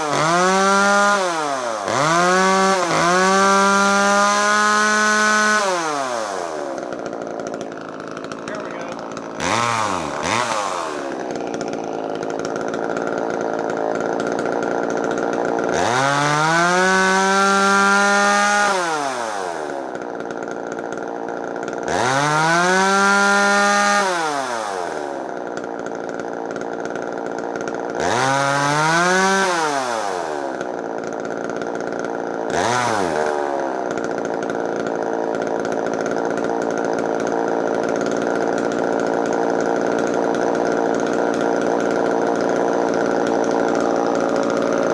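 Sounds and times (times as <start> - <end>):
chainsaw engine idling and revving: 0.0 - 44.9.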